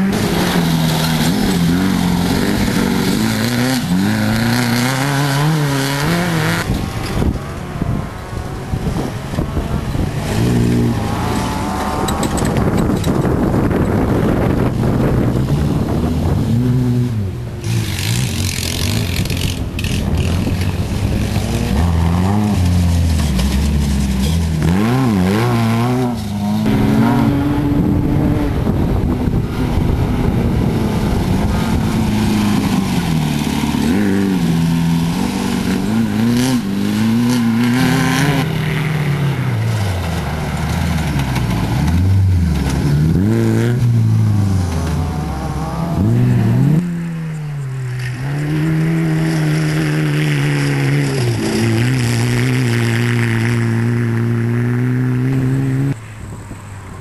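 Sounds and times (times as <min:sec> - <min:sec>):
buggy engines revving: 0:00.0 - 0:57.0.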